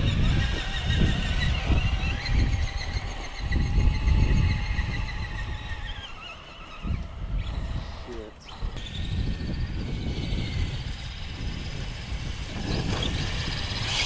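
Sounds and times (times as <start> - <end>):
radio-controlled car motor whining: 0.0 - 14.0.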